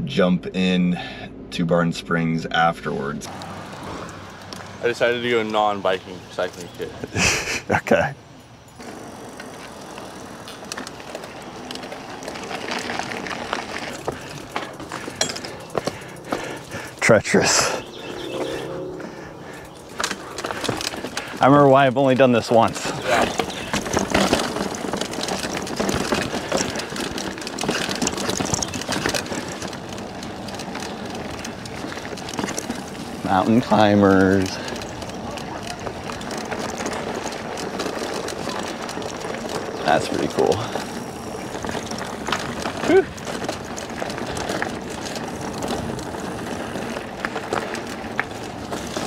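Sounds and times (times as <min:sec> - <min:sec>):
bike clicks and rattles: 0:03.2 - 0:49.0
tyres crunching on dirt trail: 0:03.2 - 0:49.0.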